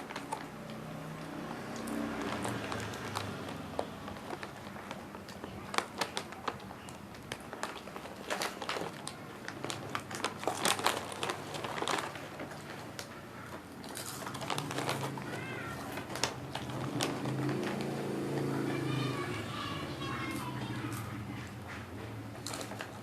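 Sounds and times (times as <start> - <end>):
crunching of crisp snack: 0.0 - 21.6, 22.3 - 23.0.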